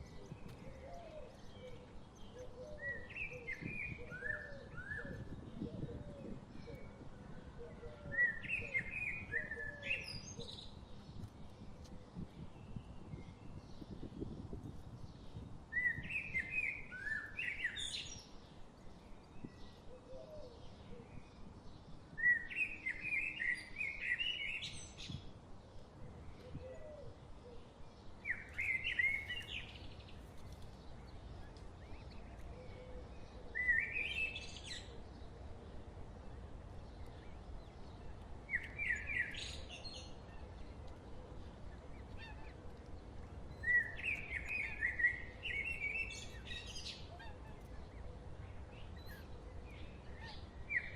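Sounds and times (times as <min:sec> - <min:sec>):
low outdoor background noise: 0:00.0 - 0:50.9
songbird singing: 0:00.0 - 0:50.9.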